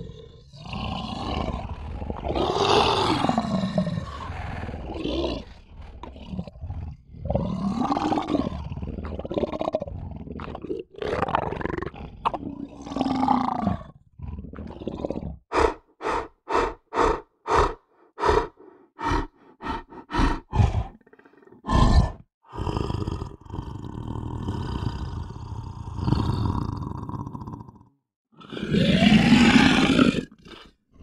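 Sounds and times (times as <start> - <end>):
lion roaring: 0.0 - 27.3, 28.4 - 30.8
lion grunting roars: 0.0 - 27.7, 28.4 - 31.0.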